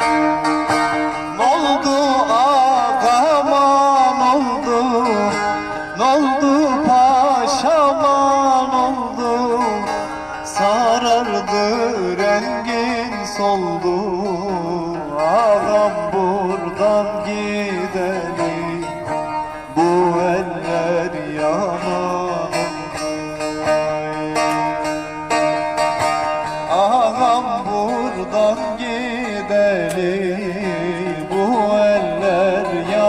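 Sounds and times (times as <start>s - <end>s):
ornamented instrumental melody: 0.0s - 33.0s.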